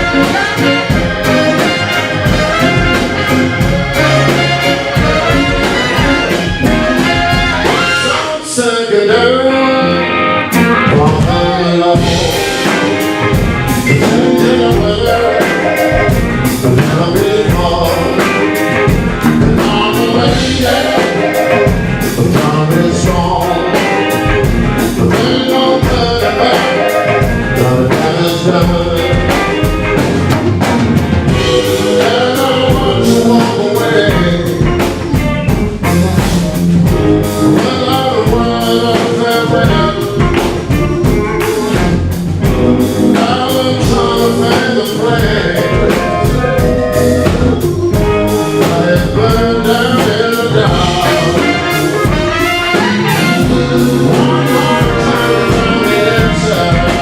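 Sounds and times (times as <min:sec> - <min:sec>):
drum kit steady beat: 0:00.0 - 0:08.4, 0:10.5 - 0:57.0
blues band playing: 0:00.0 - 0:57.0
horn section: 0:00.0 - 0:57.0.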